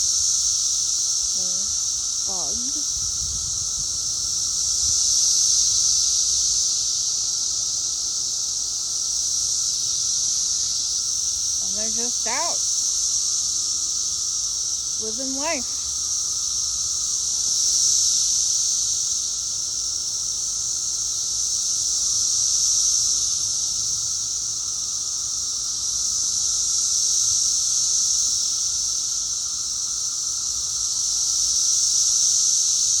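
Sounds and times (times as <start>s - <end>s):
cicadas buzzing: 0.0s - 33.0s.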